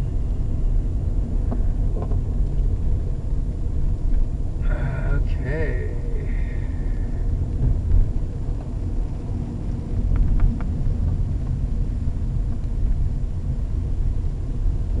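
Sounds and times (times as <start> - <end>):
car interior engine and tyre noise: 0.0 - 15.0.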